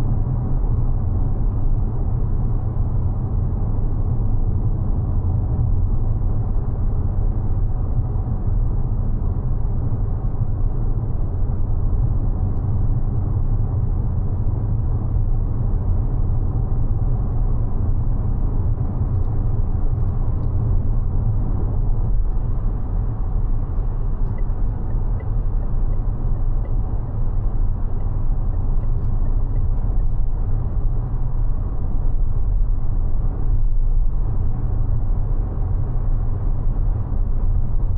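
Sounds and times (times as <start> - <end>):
road and tyre noise: 0.0 - 37.9.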